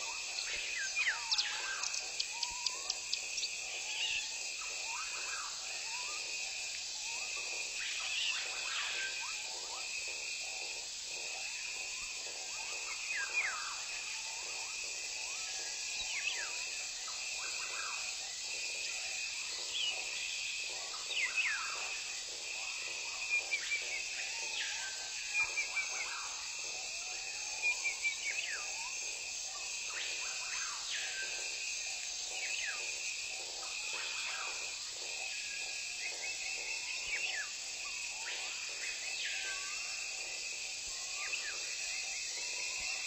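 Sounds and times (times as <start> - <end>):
high insect drone: 0.0 - 43.0.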